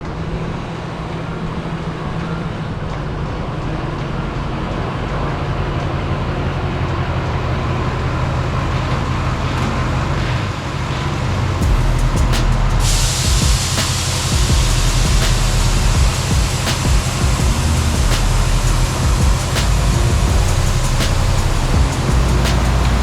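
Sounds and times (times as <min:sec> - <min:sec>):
road noise: 0:00.0 - 0:23.0
vehicle engine hum: 0:03.2 - 0:23.0.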